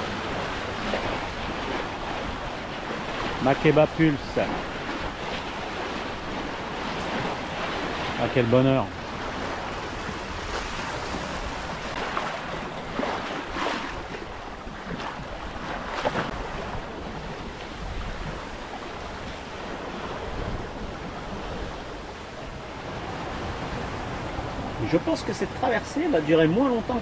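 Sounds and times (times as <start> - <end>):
water splashing along a hull: 0.0 - 27.0
wind buffeting microphone: 0.0 - 27.0.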